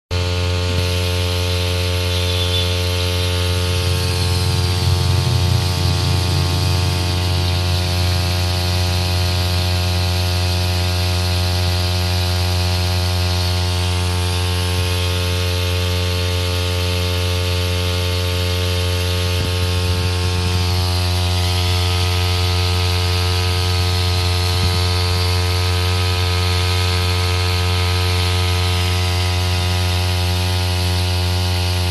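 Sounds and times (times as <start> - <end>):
brush cutter engine running: 0.2 - 31.9.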